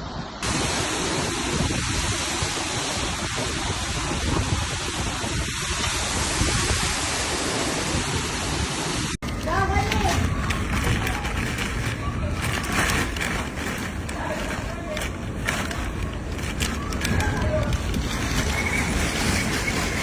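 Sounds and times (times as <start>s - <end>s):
wind buffeting microphone: 0.0s - 20.0s
heavy rain: 0.4s - 20.0s.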